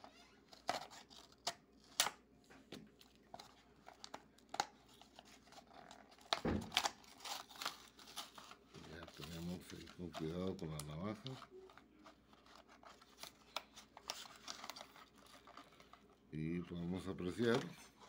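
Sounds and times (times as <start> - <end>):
cardboard crinkling and tearing: 0.0 - 2.1, 2.9 - 17.8.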